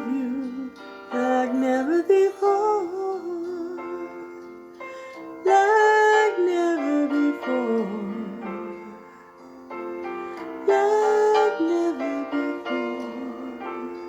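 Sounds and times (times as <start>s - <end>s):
person singing long held notes: 0.0s - 4.4s, 5.4s - 9.3s, 10.6s - 14.0s
piano: 0.0s - 14.0s.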